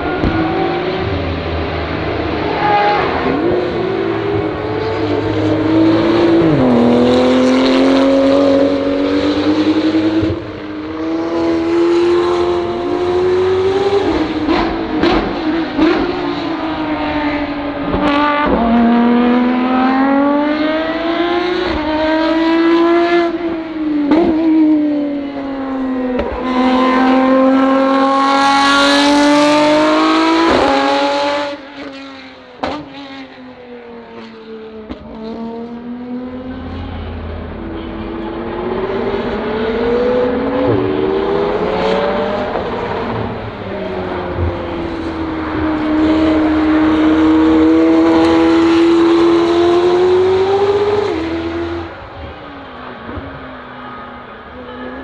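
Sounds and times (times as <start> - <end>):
race car engines revving past: 0.0 - 55.0.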